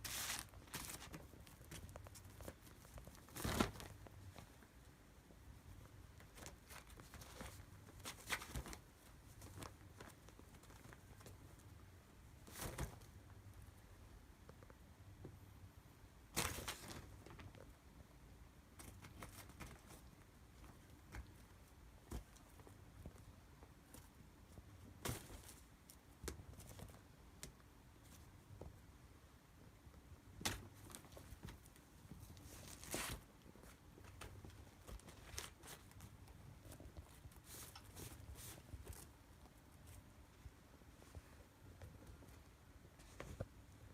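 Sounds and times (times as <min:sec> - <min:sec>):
play tunnel rustling and crinkling: 0:00.0 - 0:04.9, 0:05.6 - 0:13.6, 0:16.3 - 0:17.8, 0:18.7 - 0:28.8, 0:30.4 - 0:43.9.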